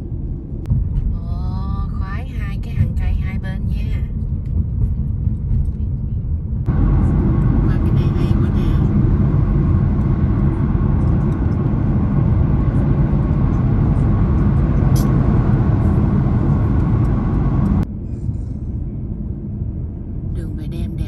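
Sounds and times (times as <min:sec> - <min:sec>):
car road and wind noise: 0:00.0 - 0:21.0.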